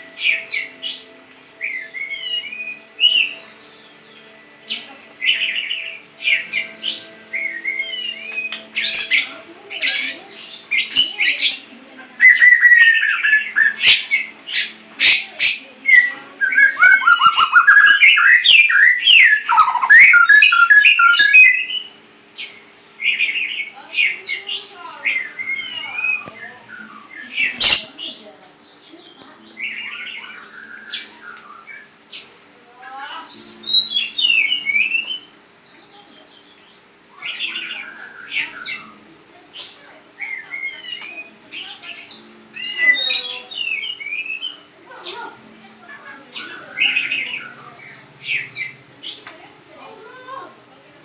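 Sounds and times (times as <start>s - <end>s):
songbird singing: 0.0s - 51.0s.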